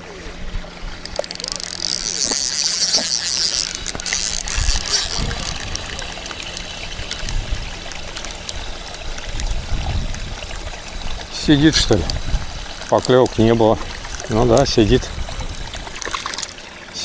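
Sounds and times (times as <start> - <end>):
fishing reel ticking whir: 0.8 - 17.0.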